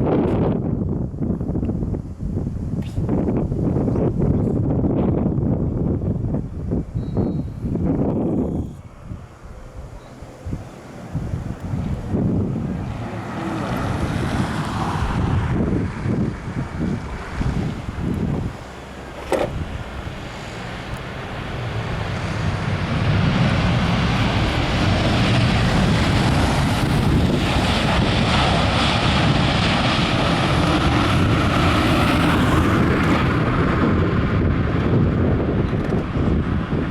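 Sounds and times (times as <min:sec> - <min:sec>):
wind buffeting microphone: 0:00.0 - 0:36.9
jet engines roaring: 0:03.3 - 0:36.9.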